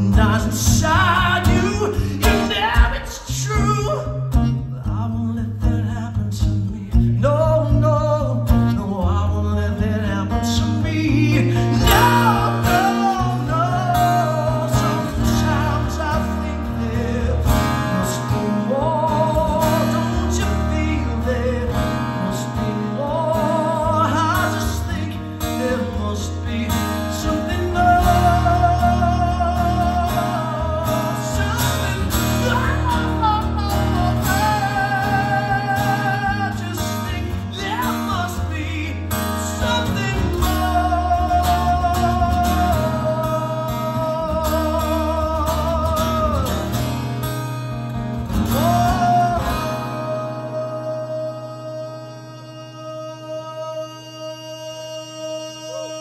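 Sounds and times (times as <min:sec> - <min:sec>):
man singing: 0:00.0 - 0:47.0, 0:48.4 - 0:56.0
strummed acoustic guitar: 0:00.0 - 0:56.0.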